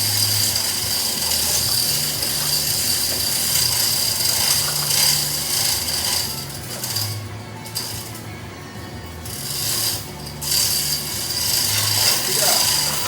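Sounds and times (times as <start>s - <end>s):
chain rattling: 0.0s - 8.4s, 9.2s - 13.0s
hoist ratcheting: 0.0s - 8.4s, 9.1s - 13.0s.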